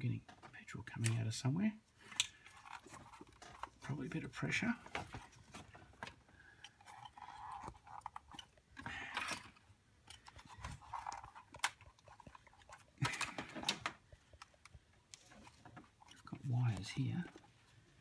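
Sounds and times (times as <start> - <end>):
handling clicks and rustles: 0.0 - 18.0.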